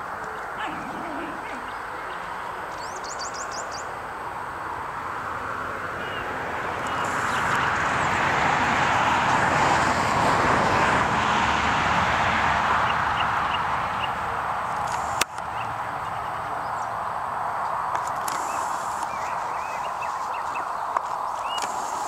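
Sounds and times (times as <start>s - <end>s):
vehicle passing by: 0.5s - 21.9s.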